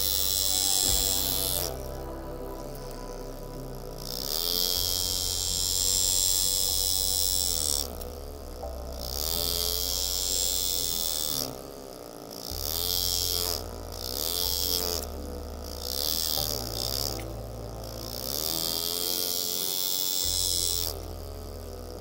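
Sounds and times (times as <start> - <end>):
engraving tool buzzing on metal: 0.0 - 22.0.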